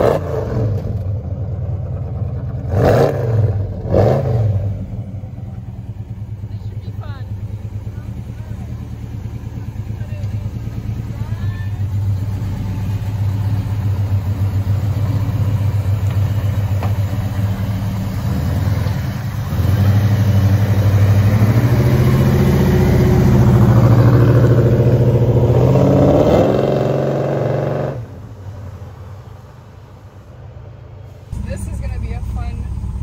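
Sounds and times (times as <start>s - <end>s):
car engine running and revving: 0.0s - 28.6s, 31.3s - 33.0s.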